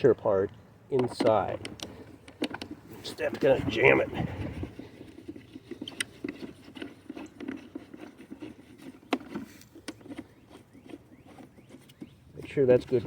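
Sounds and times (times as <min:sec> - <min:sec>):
hose fittings clicking and rubbing: 0:00.9 - 0:13.0.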